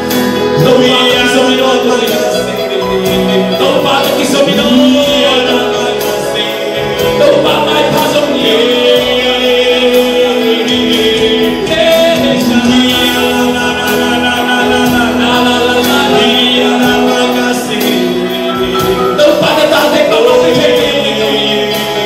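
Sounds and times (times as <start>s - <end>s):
instrumental backing: 0.0s - 22.0s
singing voices: 0.0s - 22.0s.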